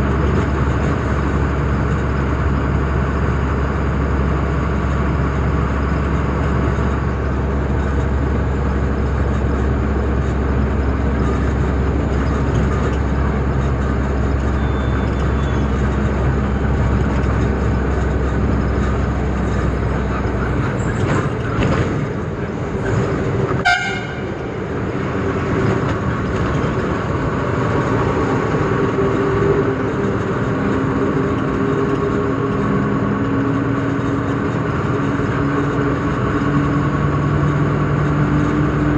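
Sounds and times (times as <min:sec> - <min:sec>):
road noise: 0:00.0 - 0:38.9
truck diesel engine running: 0:00.0 - 0:38.9.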